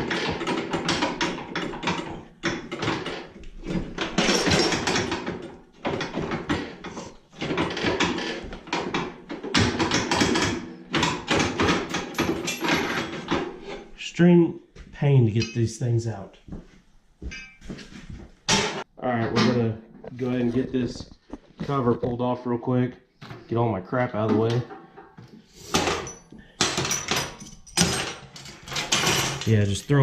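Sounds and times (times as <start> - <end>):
metal tools clanking and scraping: 0.0 - 14.0, 15.4 - 15.8, 17.2 - 21.8, 24.2 - 30.0.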